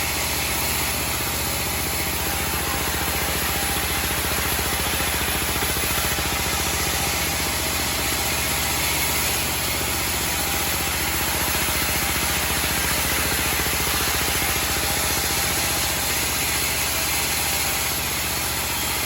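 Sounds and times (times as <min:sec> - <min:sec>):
band sawmill running: 0:00.0 - 0:19.0.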